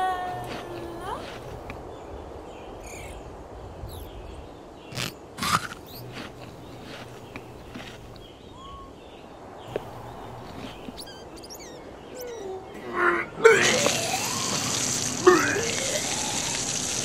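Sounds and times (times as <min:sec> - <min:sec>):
outdoor ambience: 0:00.0 - 0:17.0.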